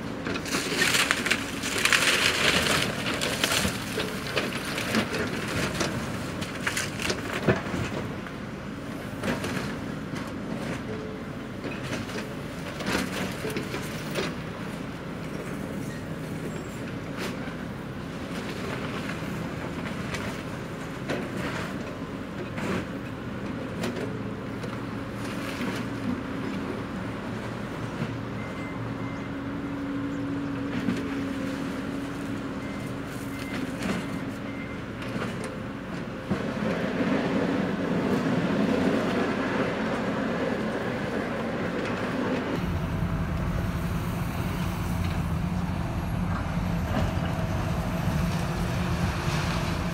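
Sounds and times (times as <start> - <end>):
diesel engine hum: 0.0 - 49.9.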